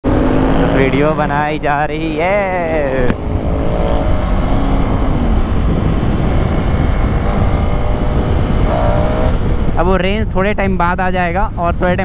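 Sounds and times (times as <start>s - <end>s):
motorcycle engine accelerating: 0.0s - 10.1s.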